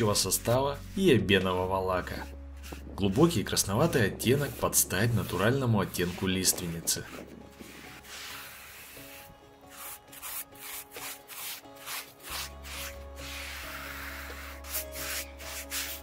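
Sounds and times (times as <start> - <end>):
background music: 0.0 - 16.0
paintbrush strokes swishing on wood: 0.0 - 16.0.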